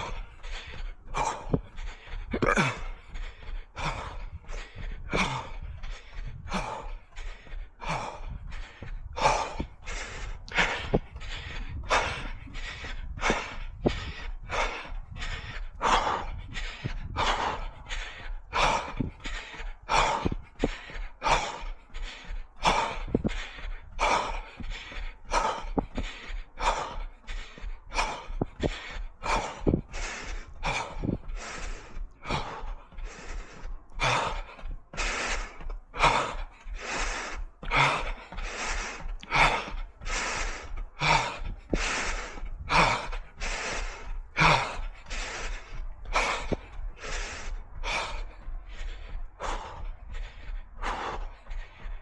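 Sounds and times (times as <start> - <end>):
hard rhythmic breathing: 0.0 - 52.0.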